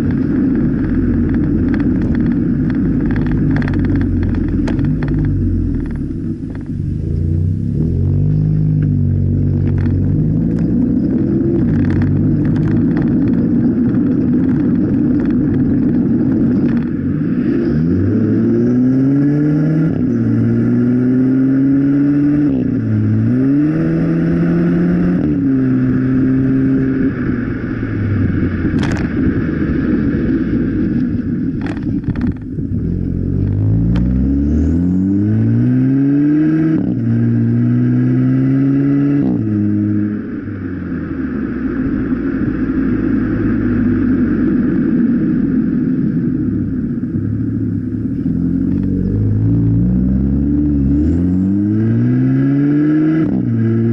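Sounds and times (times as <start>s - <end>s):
exhaust cracks: 0.0s - 18.8s, 19.7s - 52.4s
car exhaust revving: 0.0s - 53.9s.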